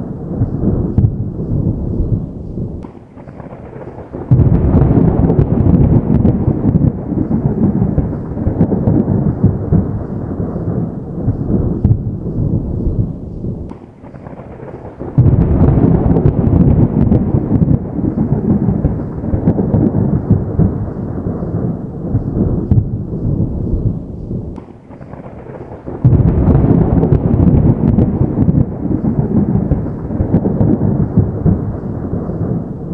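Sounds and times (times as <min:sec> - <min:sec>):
distant thunder rumbling: 0:00.0 - 0:32.9.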